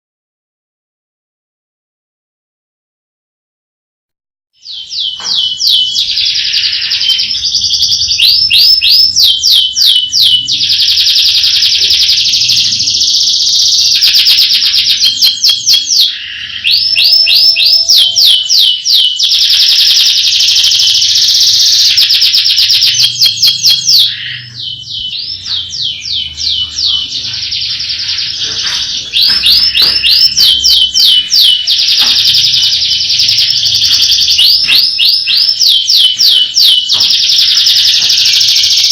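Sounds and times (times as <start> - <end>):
canary singing trills: 4.6 - 38.9.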